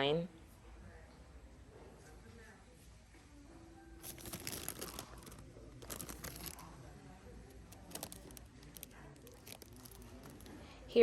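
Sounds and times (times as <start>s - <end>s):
faint rustling and crinkling: 0.6s - 11.0s.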